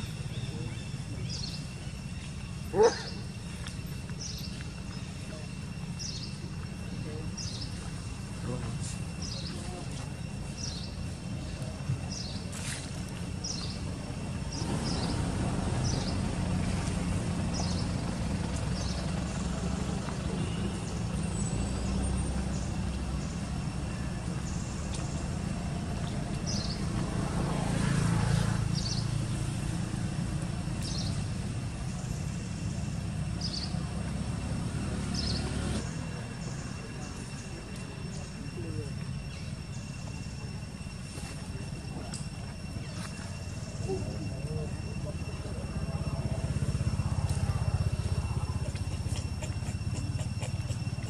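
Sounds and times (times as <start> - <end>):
motor vehicle engine rumble: 0.0 - 51.0
thin high insect drone: 0.0 - 51.0.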